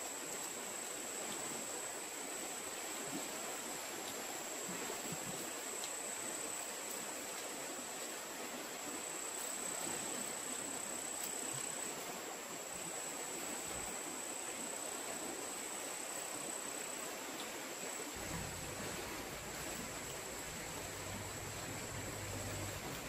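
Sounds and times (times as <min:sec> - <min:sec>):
woodland ambience hiss: 0:00.0 - 0:23.0.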